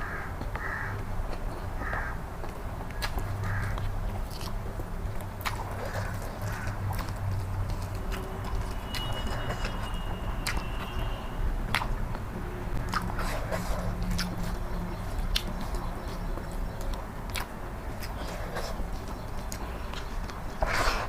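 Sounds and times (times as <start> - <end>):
steady low hum: 0.0 - 21.0
close chewing with mouth clicks: 0.4 - 21.0.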